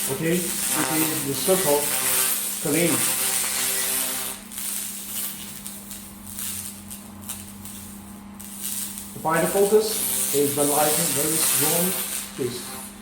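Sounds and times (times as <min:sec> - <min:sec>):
hiss and crackle of laser: 0:00.0 - 0:13.0
laser cleaner electric buzz: 0:00.0 - 0:13.0.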